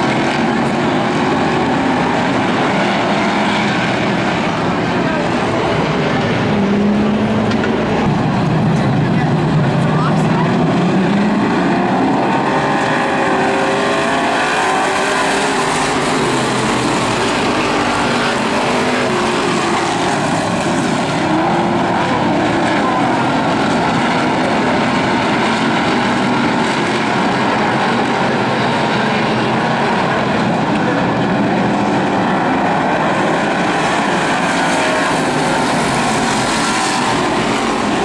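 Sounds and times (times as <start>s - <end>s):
race car engines: 0.0s - 38.0s.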